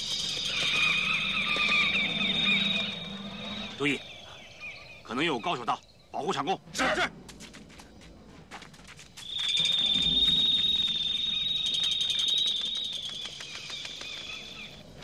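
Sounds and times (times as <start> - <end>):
shrill insect trill: 0.0 - 15.0.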